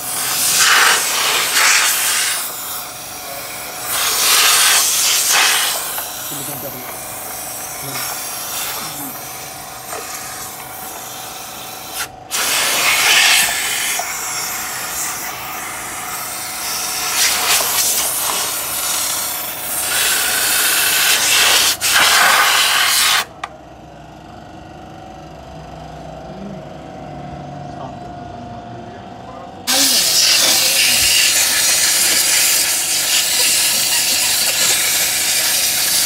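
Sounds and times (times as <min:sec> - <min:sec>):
pressure sprayer hissing: 0:00.0 - 0:23.3, 0:29.7 - 0:36.0.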